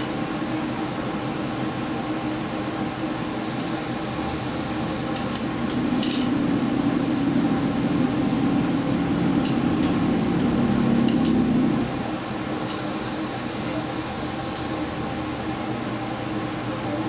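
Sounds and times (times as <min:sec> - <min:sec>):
diesel train running hum: 0:00.0 - 0:17.0.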